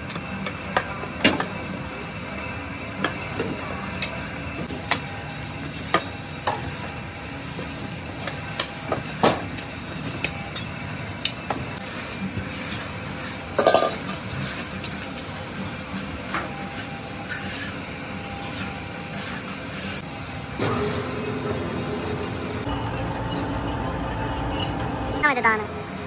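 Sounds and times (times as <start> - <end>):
workshop machinery hum: 0.0 - 26.0.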